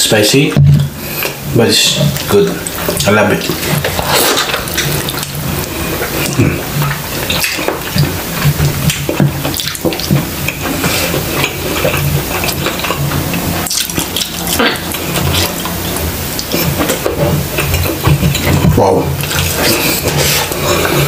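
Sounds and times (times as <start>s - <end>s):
wet chewing: 2.0s - 21.0s.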